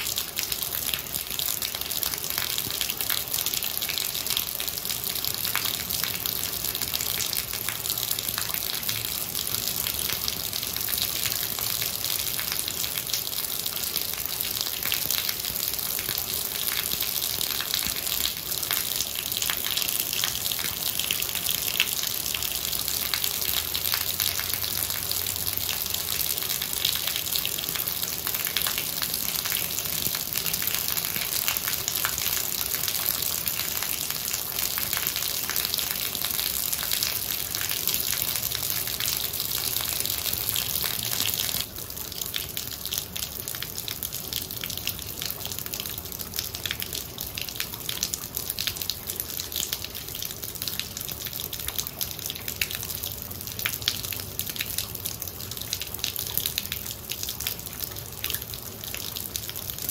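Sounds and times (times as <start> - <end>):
heavy rain on puddled asphalt: 0.0 - 59.9.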